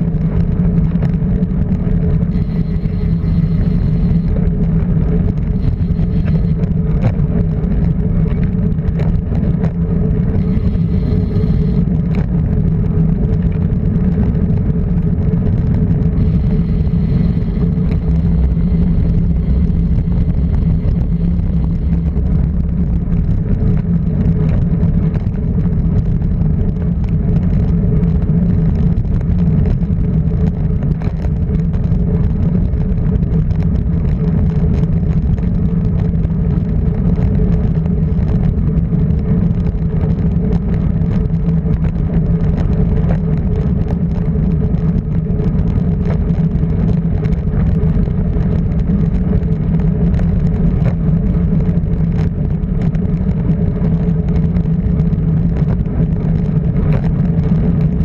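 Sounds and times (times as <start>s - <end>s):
road and wind noise: 0.0s - 58.0s
vehicle engine droning: 0.0s - 58.0s.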